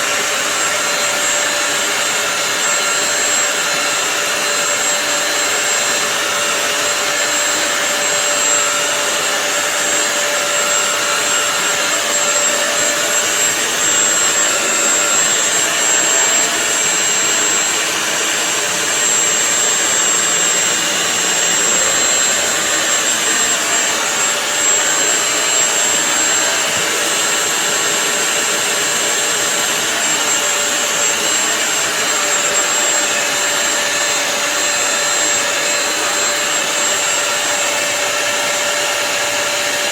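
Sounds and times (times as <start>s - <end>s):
floor cleaner motor whining: 0.0s - 39.9s.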